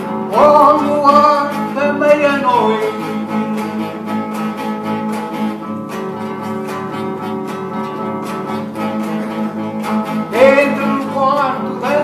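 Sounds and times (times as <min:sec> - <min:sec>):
classical guitar strumming chords: 0:00.0 - 0:12.0.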